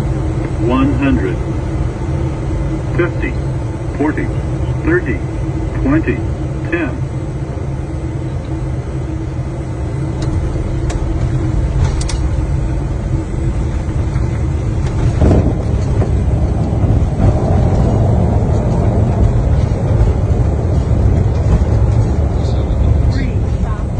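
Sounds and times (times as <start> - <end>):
wheels and engines rumbling: 0.0 - 23.9.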